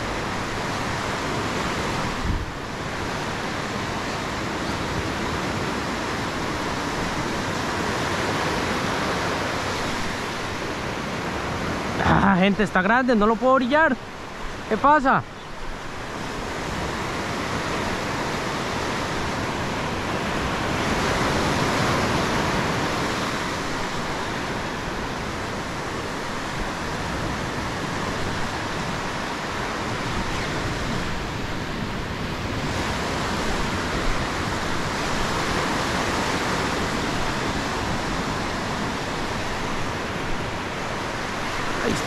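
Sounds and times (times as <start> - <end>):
surf breaking on a sand beach: 0.0 - 42.0.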